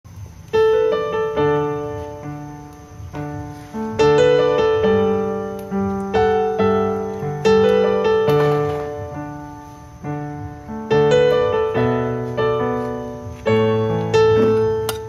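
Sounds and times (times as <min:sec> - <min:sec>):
gentle piano music: 0:00.1 - 0:15.0.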